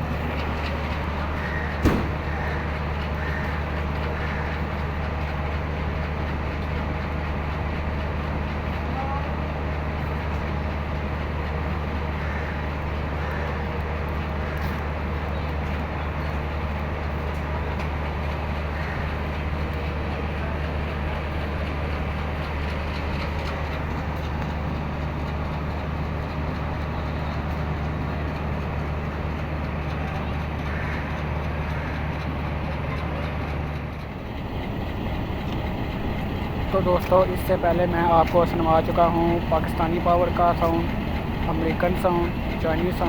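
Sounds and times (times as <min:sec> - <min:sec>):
diesel locomotive idling: 0:00.0 - 0:43.0.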